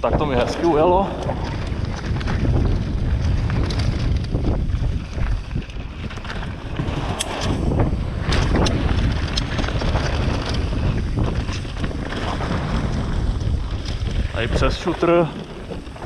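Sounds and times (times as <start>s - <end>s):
mountain bike rattling: 0.0s - 16.0s
wind buffeting microphone: 0.0s - 16.0s.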